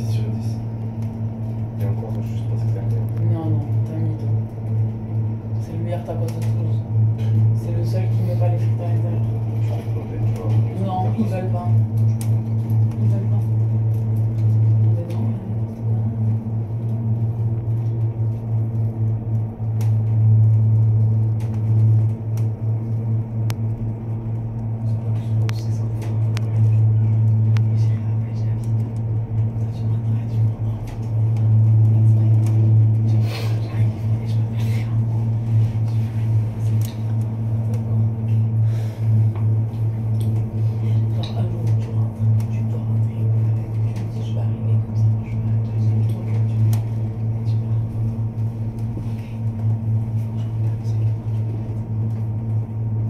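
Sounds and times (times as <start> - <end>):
cable car cabin hum: 0.0 - 53.0.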